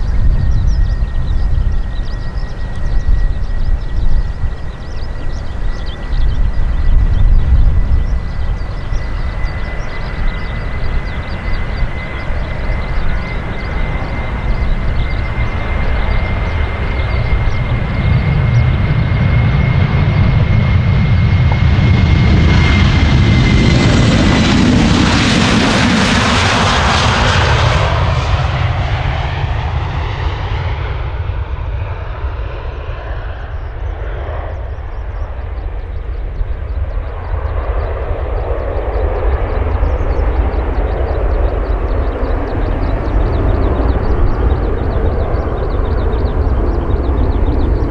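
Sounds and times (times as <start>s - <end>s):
jet engines at takeoff: 0.0s - 47.9s.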